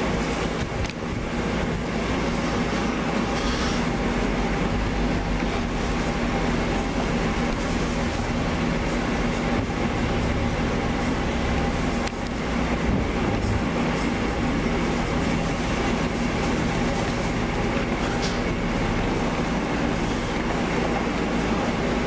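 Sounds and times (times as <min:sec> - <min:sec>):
constant rushing noise: 0:00.0 - 0:22.0
machinery humming: 0:00.0 - 0:22.0.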